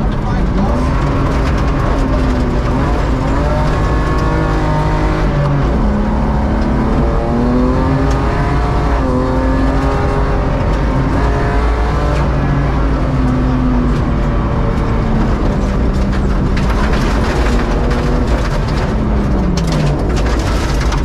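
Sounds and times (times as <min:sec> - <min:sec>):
rally car engine revving: 0:00.0 - 0:21.0
road noise rumble: 0:00.0 - 0:21.0.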